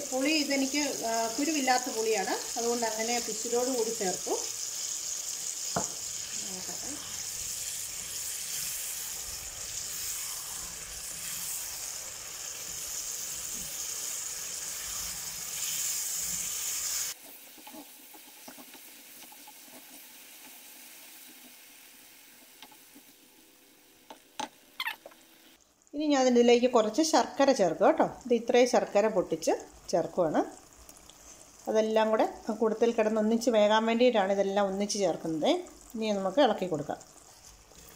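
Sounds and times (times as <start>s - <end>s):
sauce sizzling in a pan: 0.0s - 37.9s.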